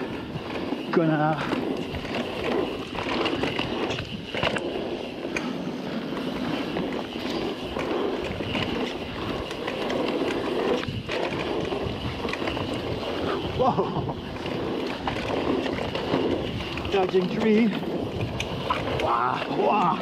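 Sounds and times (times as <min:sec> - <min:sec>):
bike tyres rolling over dirt: 0:00.0 - 0:20.0.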